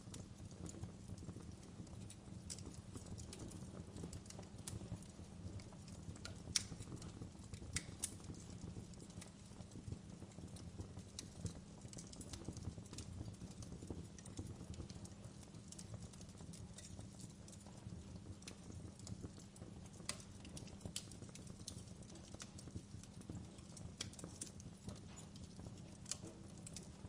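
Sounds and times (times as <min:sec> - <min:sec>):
low fire rumble: 0:00.0 - 0:27.0
wood fire snaps and pops: 0:00.0 - 0:27.0.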